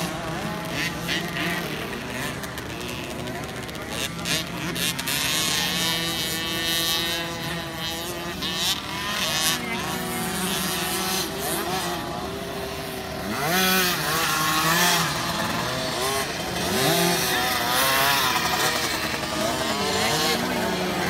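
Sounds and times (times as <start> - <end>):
motocross bikes racing past: 0.0 - 21.0.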